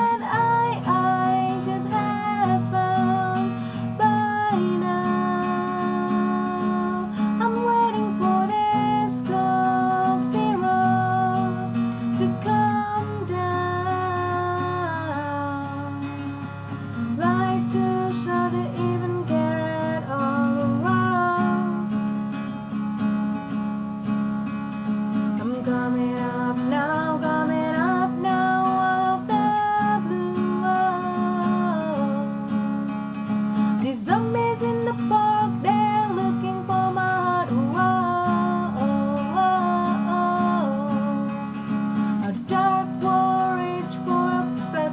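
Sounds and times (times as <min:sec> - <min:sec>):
person singing: 0:00.0 - 0:16.4, 0:17.0 - 0:22.0, 0:25.4 - 0:32.7, 0:33.7 - 0:41.6, 0:42.2 - 0:44.9
acoustic guitar strumming: 0:00.0 - 0:44.9.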